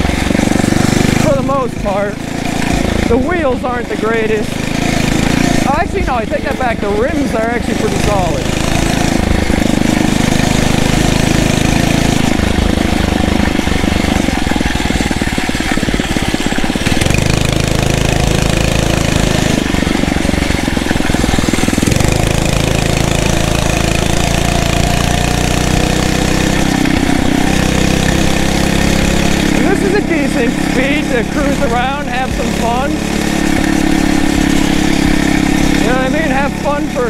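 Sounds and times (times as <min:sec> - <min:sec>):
motorized bicycle engine running: 0:00.0 - 0:37.0.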